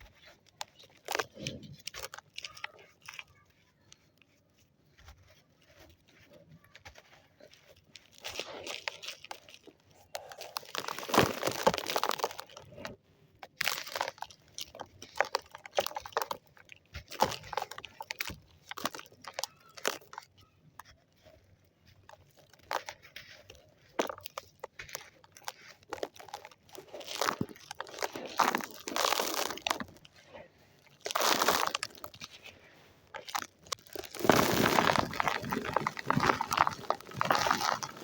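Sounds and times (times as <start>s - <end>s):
dry sand crumbling and crunching: 0.0s - 38.0s.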